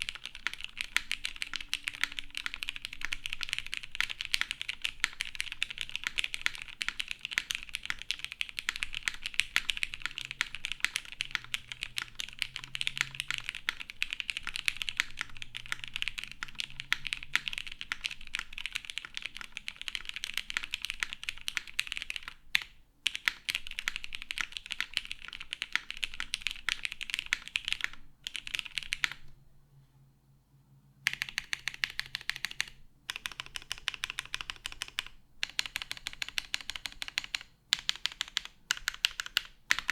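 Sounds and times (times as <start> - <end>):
mechanical keyboard typing: 0.0 - 29.4, 31.0 - 39.9.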